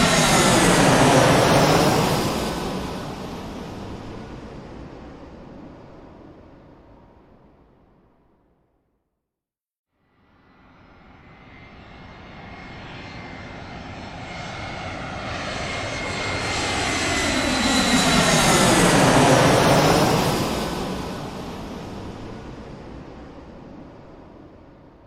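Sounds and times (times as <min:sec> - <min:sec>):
airplane flying over: 0:00.0 - 0:07.8, 0:10.3 - 0:25.0.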